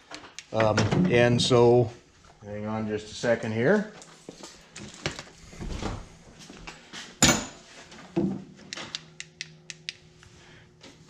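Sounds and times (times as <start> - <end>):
faint lingering hum: 0.7 - 11.0.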